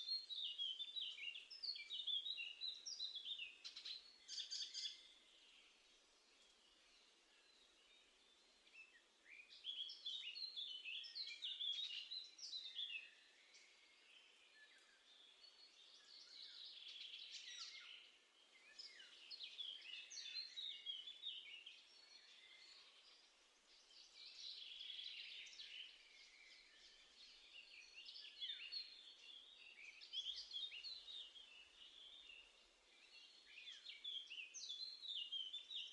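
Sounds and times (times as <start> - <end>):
songbirds singing and twittering: 0.0 - 35.9.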